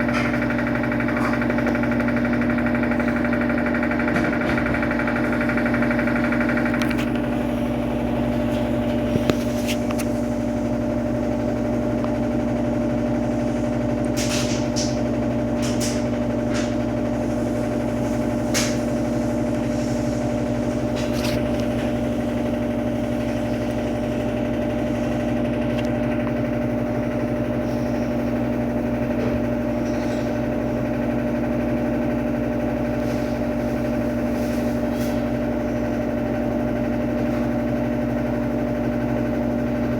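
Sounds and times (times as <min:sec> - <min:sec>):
washing machine spinning with whine: 0:00.0 - 0:39.9.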